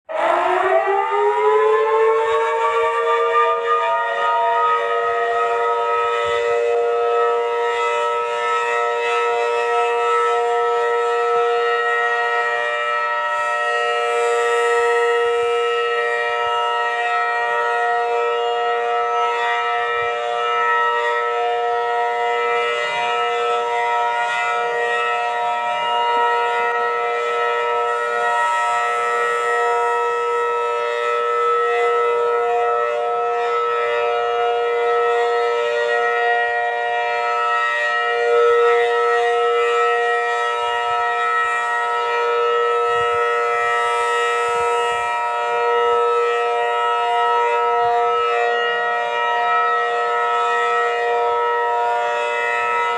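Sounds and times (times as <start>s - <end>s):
warning siren wailing: 0.0s - 52.9s.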